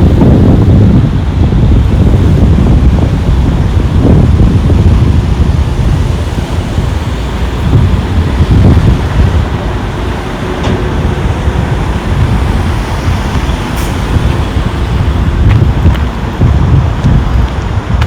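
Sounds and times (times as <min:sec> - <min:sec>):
street traffic noise: 0:00.0 - 0:18.0
wind buffeting microphone: 0:00.0 - 0:18.0.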